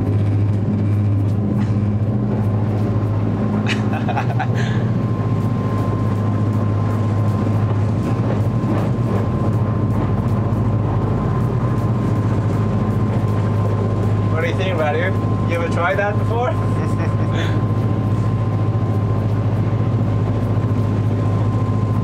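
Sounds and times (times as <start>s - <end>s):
boat engines droning: 0.0s - 22.0s
thin steady whine: 0.0s - 22.0s.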